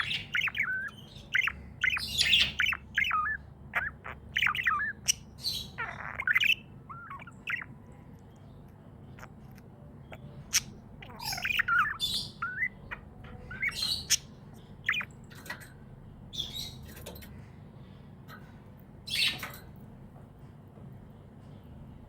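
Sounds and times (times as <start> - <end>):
budgies chirping and warbling: 0.0 - 17.3, 19.1 - 19.7.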